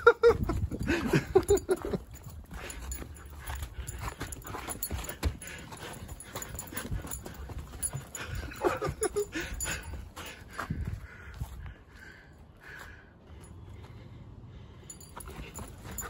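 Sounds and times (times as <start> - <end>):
paws scuffing on dirt: 0.3 - 13.6, 14.9 - 16.0.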